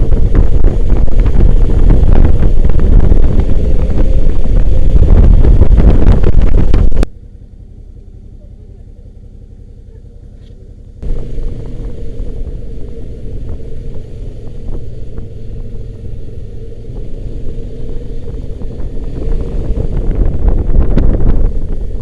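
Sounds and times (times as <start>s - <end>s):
wind rumbling on microphone: 0.0s - 7.1s, 11.0s - 22.0s
vehicle engine running: 0.0s - 22.0s.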